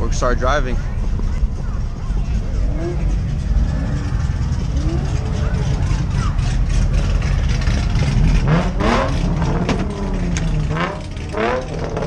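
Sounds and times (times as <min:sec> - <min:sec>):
car engines idling: 0:00.0 - 0:12.0
car engine revving: 0:00.8 - 0:12.0.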